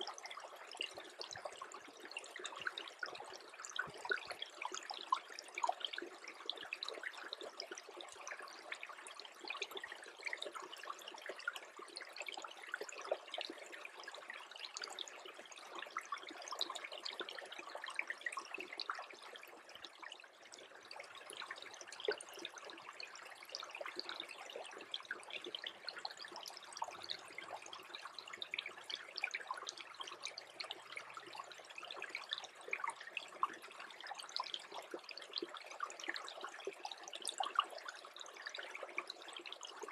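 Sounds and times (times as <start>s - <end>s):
creek trickling with tiny ticks: 0.0s - 39.9s.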